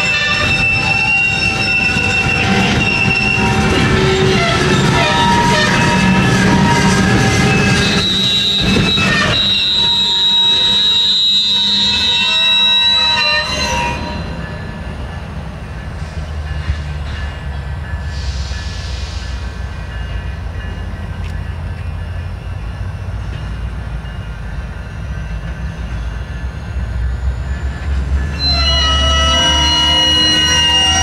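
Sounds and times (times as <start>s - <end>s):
freight train rumble: 0.0s - 31.0s.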